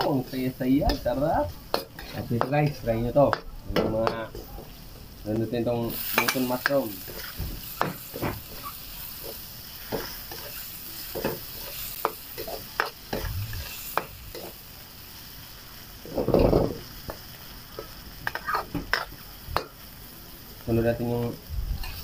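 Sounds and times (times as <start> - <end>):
mushrooms sizzling in oil: 0.0 - 22.0.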